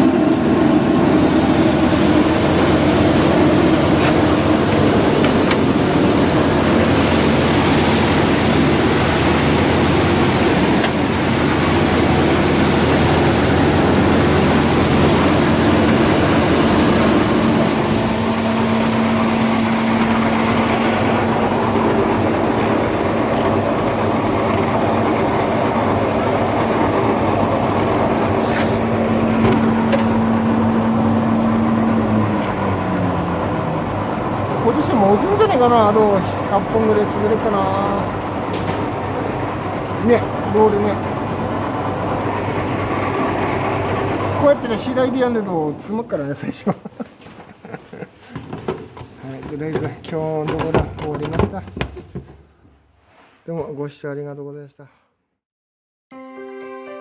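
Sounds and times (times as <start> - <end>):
rice huller deep rumble: 0.0 - 46.5
steady machine hum: 0.0 - 52.8.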